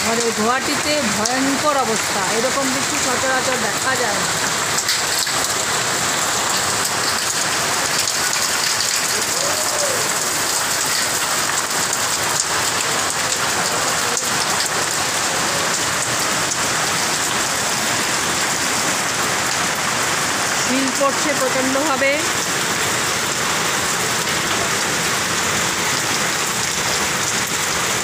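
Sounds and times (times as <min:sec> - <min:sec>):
heavy rain pouring: 0:00.0 - 0:28.0
raindrops ticking: 0:00.0 - 0:28.0.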